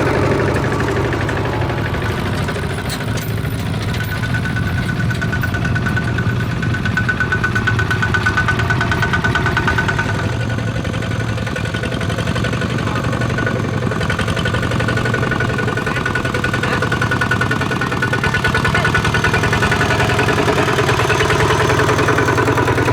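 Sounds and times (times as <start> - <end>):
tractor engine chugging: 0.0 - 22.9.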